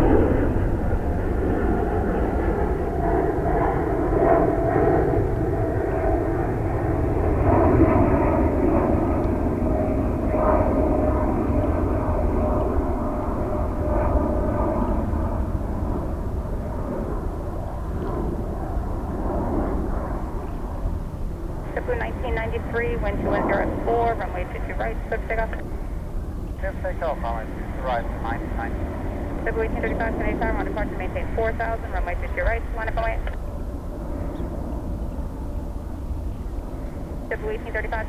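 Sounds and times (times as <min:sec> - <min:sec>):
faint jet engine whine: 0:00.0 - 0:38.0
jet engines rumbling: 0:00.0 - 0:38.0.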